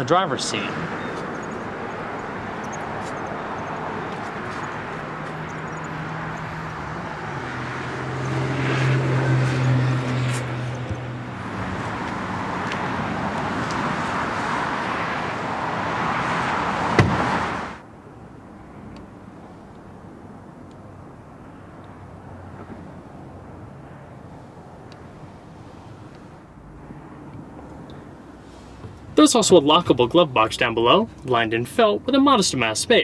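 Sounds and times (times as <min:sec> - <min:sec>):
vehicle passing: 0:00.0 - 0:29.2
road traffic: 0:00.0 - 0:33.0.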